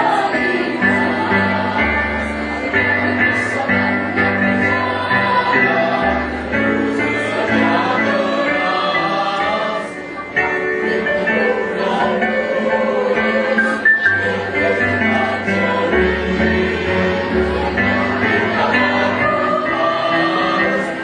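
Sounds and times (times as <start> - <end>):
choir singing in parts: 0.0 - 21.0.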